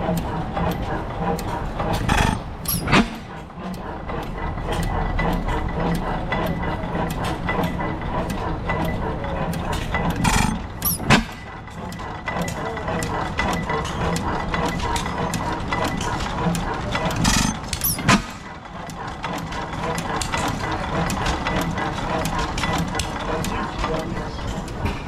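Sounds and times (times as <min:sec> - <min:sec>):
machinery clattering: 0:00.0 - 0:25.0
sharp mechanical knocks: 0:00.0 - 0:25.0.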